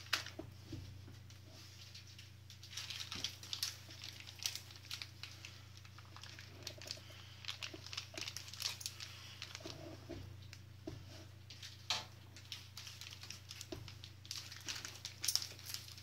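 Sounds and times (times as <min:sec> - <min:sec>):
plastic bags crinkling: 0:00.0 - 0:00.4, 0:01.2 - 0:10.6, 0:11.2 - 0:16.0
steady low hum: 0:00.0 - 0:16.0.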